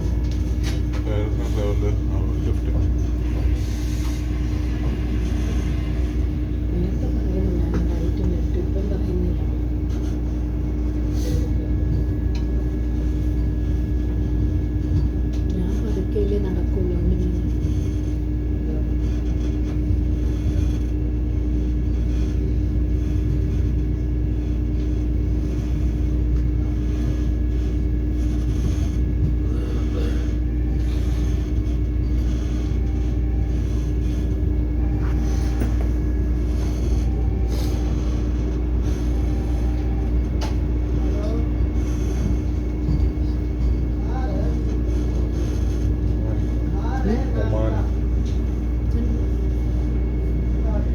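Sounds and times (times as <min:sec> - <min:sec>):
train rumbling: 0:00.0 - 0:20.8, 0:28.2 - 0:50.9.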